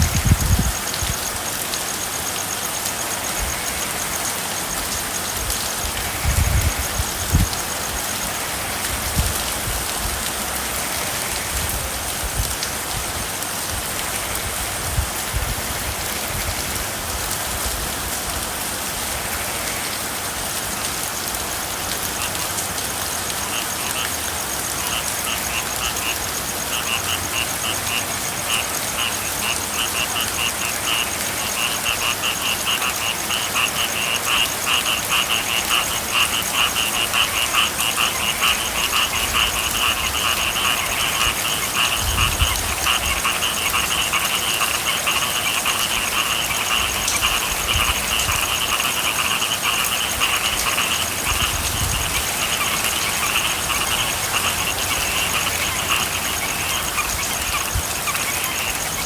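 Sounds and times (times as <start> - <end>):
frogs calling in trills: 0.0 - 12.6, 19.0 - 59.0
rain falling: 0.0 - 59.0.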